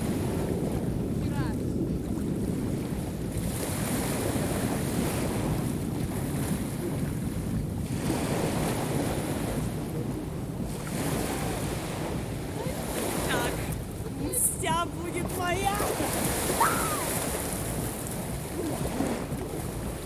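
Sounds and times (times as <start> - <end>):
sea waves breaking on shore: 0.0 - 20.0
wind rumbling on microphone: 0.0 - 20.0.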